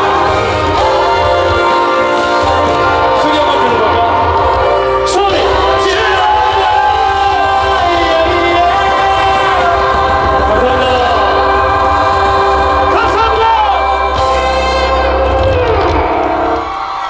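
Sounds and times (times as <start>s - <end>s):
sustained band chords: 0.0s - 17.0s
voices singing runs: 0.0s - 17.0s.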